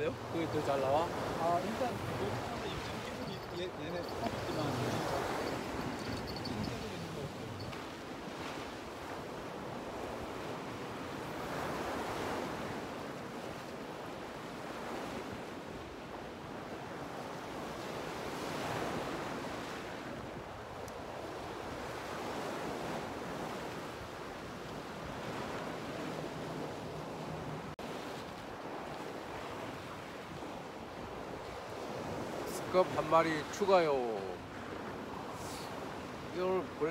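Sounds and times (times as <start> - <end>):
ocean waves on rocky shore: 0.0 - 36.9.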